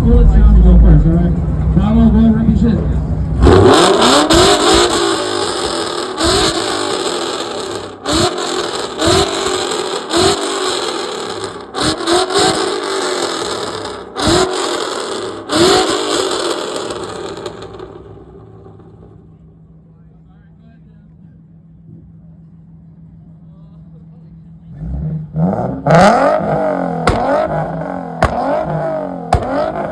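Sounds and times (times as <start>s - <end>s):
car engine revving: 0.0s - 19.5s, 24.6s - 29.9s.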